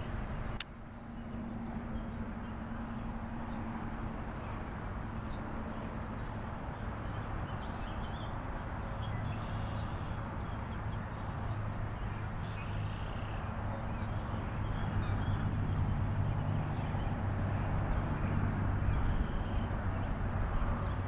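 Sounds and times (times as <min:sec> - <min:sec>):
low engine-like hum: 0:00.0 - 0:21.0.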